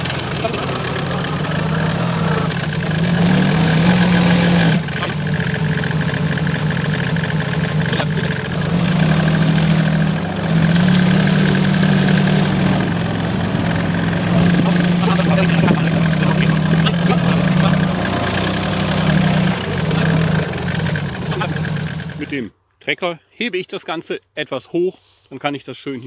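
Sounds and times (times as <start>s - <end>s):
tractor diesel engine running: 0.0s - 22.5s.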